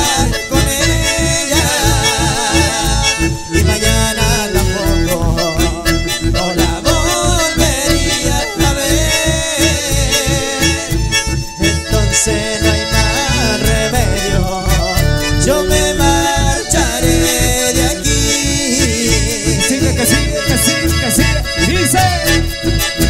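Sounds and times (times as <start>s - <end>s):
live dance band playing: 0.0s - 23.0s.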